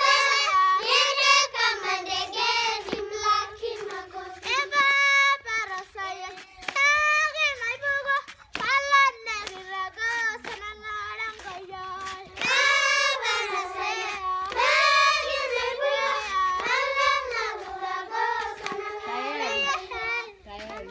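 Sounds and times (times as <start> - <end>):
girls singing in high voices: 0.0 - 20.9.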